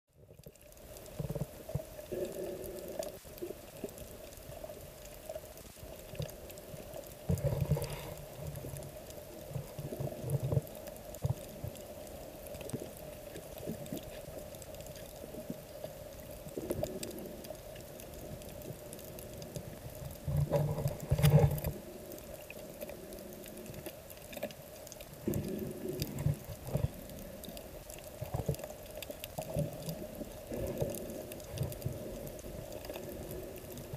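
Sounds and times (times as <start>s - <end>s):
steady underwater hum: 0.1s - 33.9s
underwater sloshing and bubbling: 0.1s - 33.9s.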